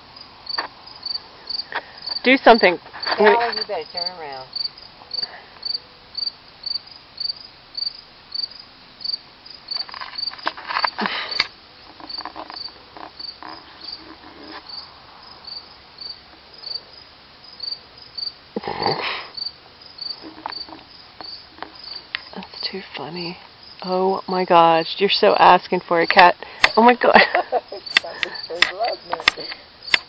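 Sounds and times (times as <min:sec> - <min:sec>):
cricket chirping: 0:00.0 - 0:30.0.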